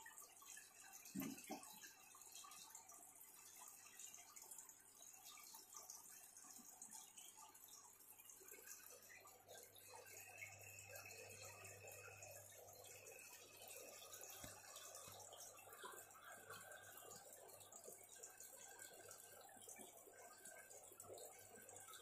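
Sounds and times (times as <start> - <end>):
aquarium water trickling: 0.0 - 22.0.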